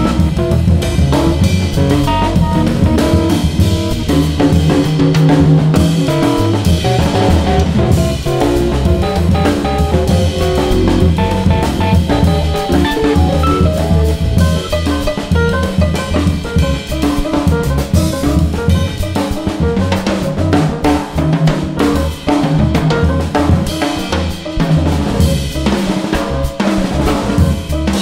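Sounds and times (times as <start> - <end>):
bass and guitar: 0.0 - 28.0
drum kit beat: 0.0 - 28.0.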